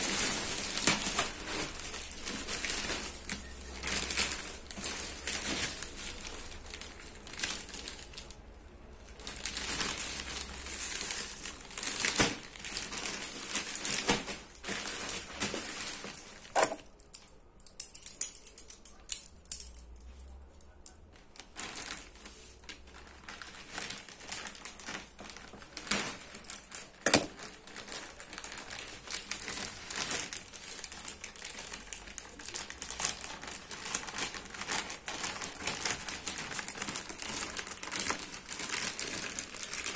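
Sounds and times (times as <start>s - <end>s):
plastic wrap crinkling: 0.0s - 17.4s, 18.0s - 39.9s.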